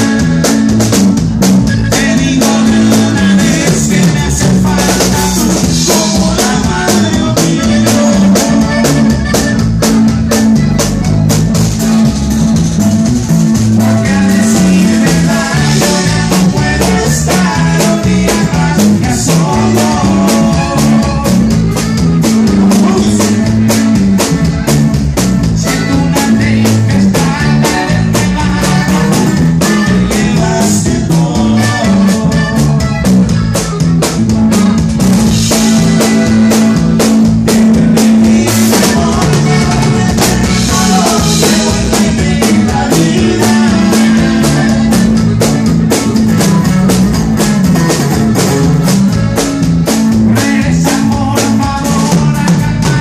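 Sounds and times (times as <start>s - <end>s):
drum kit beat: 0.0s - 53.0s
live band music: 0.0s - 53.0s
low bass notes: 0.0s - 53.0s.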